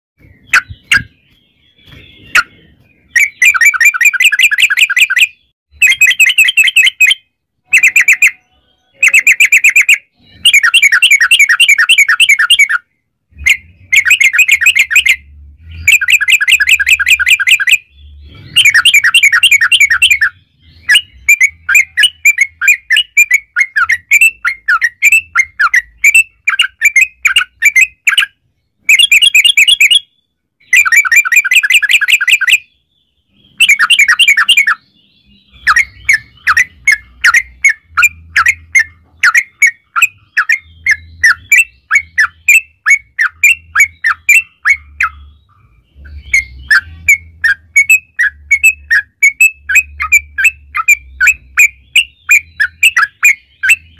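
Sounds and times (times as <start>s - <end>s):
bulbul singing rapid chattering: 0.2s - 53.9s.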